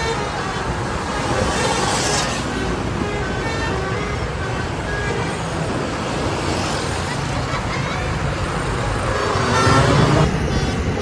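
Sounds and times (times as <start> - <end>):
bus engines and tyres: 0.0 - 11.0.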